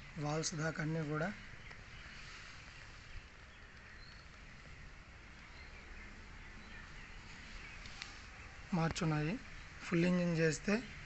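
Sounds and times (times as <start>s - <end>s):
faint background noise: 0.0s - 11.0s.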